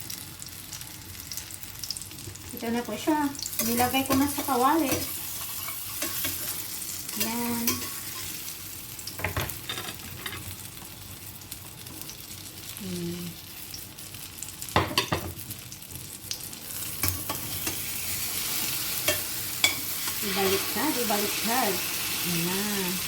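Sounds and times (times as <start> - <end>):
omelette sizzling in oil: 0.0 - 23.0.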